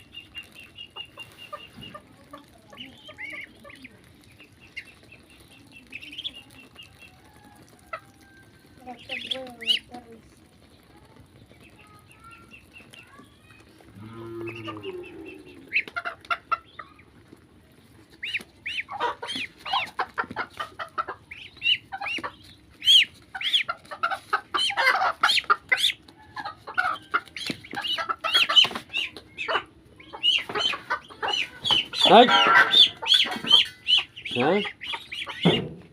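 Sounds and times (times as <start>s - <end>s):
chickens clucking and calling: 0.0s - 35.9s.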